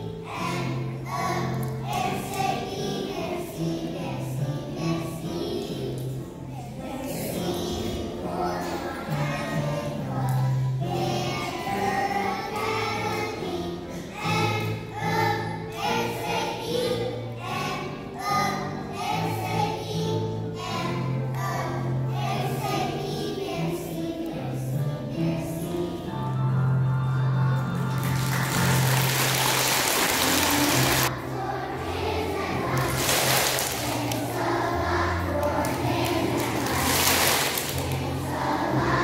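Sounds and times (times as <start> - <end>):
children singing in unison: 0.0 - 26.2, 28.2 - 39.0
instrumental backing music: 0.0 - 39.0.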